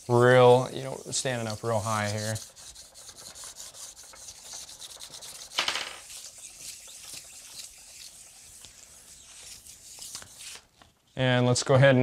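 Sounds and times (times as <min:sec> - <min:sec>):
sandpaper scraping on metal: 0:00.0 - 0:11.2.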